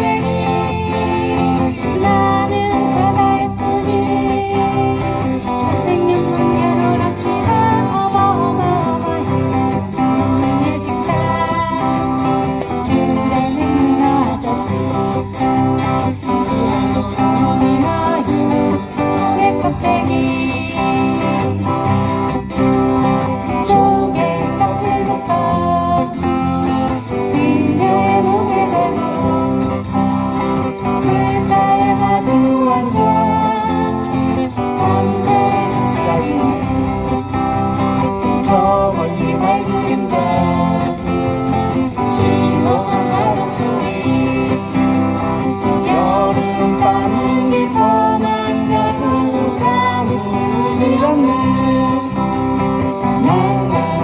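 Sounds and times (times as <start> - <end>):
acoustic guitars strumming: 0.0 - 54.0
person singing folk song: 0.0 - 54.0.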